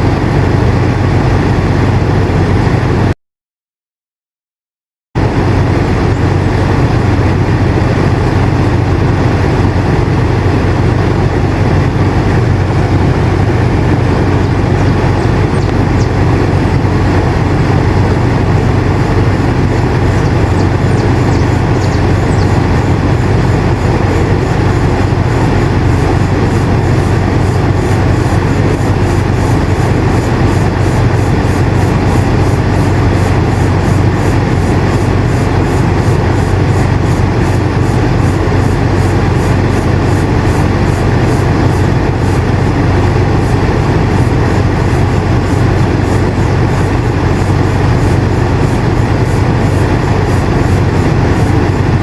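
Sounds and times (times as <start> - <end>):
air conditioner running: 0.0 - 3.2, 5.2 - 52.0.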